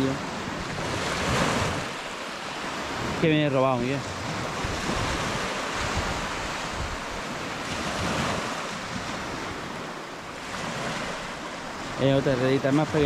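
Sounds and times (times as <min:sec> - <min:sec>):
small waves breaking on shore: 0:00.0 - 0:13.0
wind buffeting microphone: 0:00.0 - 0:13.0.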